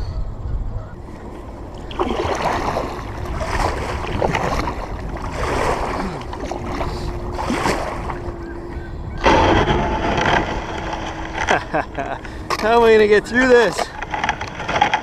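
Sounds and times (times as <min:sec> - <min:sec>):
faint steady hum: 0:00.0 - 0:15.0
wind buffeting microphone: 0:00.0 - 0:15.0
paddle strokes splashing: 0:01.1 - 0:15.0.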